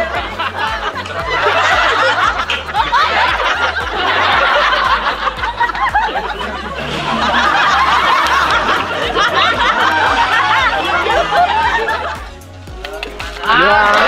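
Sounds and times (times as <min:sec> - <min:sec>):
group of people laughing: 0:00.0 - 0:12.5
background music with bass line: 0:00.0 - 0:14.0.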